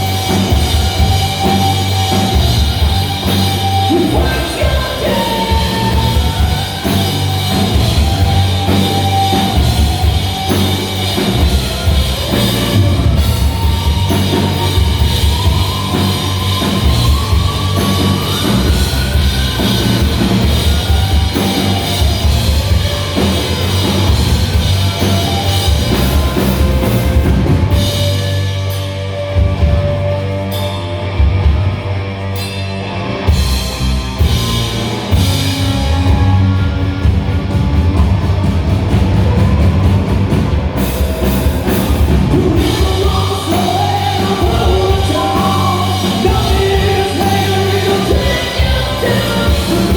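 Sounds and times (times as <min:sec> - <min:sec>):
drum kit beat: 0:00.0 - 0:49.9
rock band playing live: 0:00.0 - 0:49.9.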